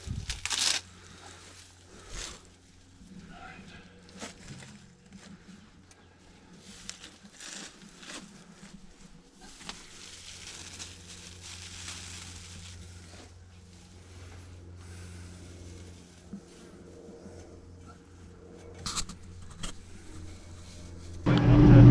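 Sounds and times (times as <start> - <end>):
rustling: 0.0 - 3.3, 3.9 - 21.2
tractor engine running: 0.8 - 21.9.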